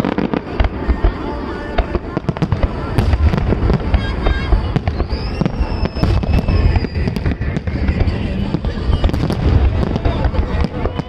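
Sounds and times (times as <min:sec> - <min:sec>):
fireworks bangs and crackles: 0:00.0 - 0:11.0
heavy low rumble: 0:00.0 - 0:11.0
rising firework whistle: 0:00.0 - 0:11.0.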